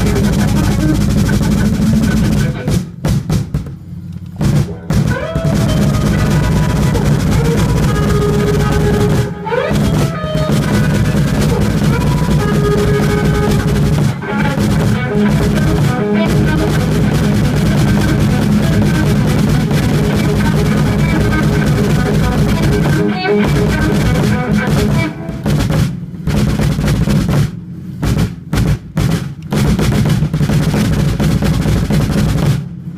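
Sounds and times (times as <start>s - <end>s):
bass drum double pedal rolls: 0.0s - 32.9s.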